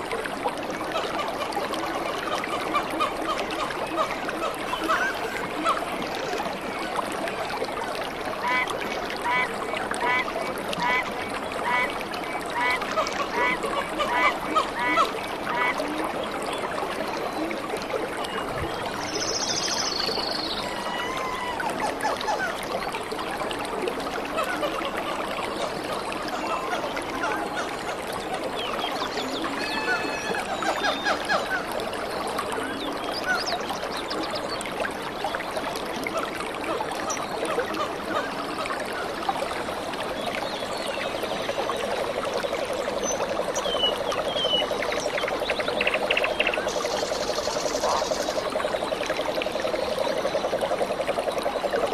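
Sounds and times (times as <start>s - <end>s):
trickling water: 0.0s - 51.9s.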